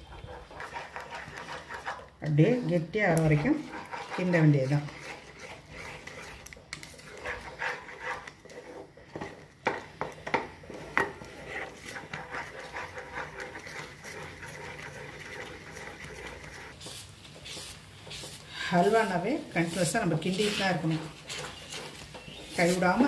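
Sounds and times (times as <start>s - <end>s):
spatula scraping sticky food in pan: 0.0s - 23.0s.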